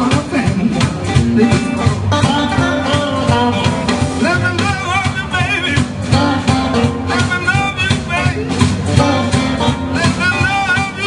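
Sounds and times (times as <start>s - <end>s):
live blues band playing: 0.0s - 11.0s.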